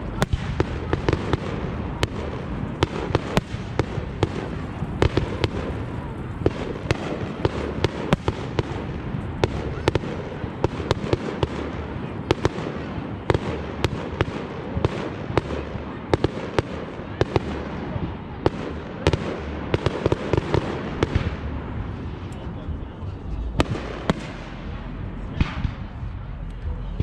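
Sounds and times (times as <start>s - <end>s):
continuous noisy background: 0.0s - 27.0s
fireworks bangs: 0.0s - 27.0s.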